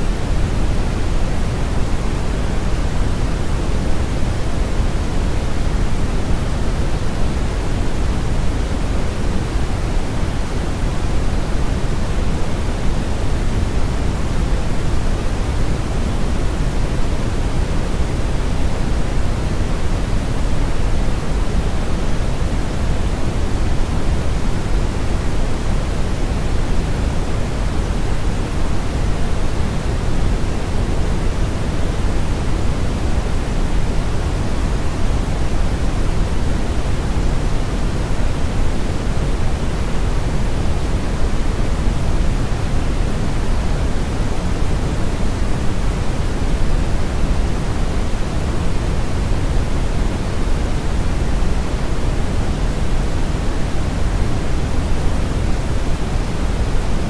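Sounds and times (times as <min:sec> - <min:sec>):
brown noise rushing hiss: 0:00.0 - 0:57.0.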